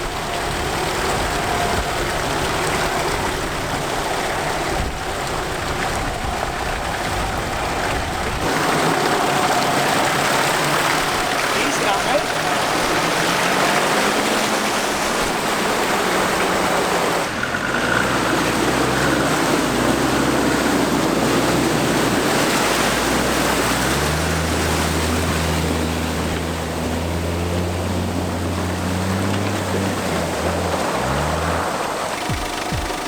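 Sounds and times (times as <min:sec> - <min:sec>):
engine droning: 0:00.0 - 0:33.0
water splashing: 0:00.0 - 0:33.0.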